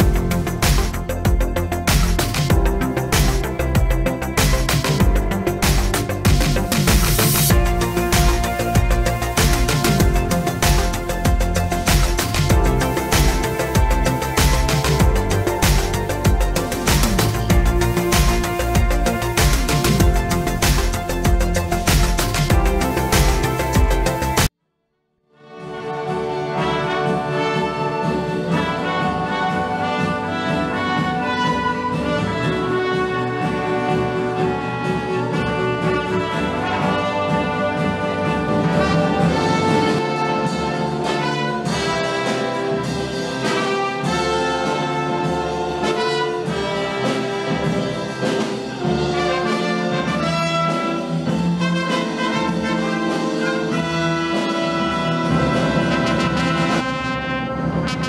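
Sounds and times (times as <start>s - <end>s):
orchestra with prominent brass: 0.0s - 24.5s, 25.4s - 58.0s.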